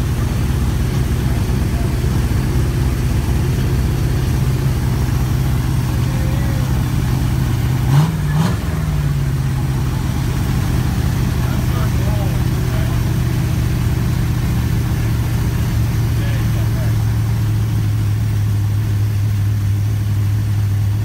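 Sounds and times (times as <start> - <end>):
engine revving: 0.0 - 18.4
car engine idling: 0.0 - 21.0.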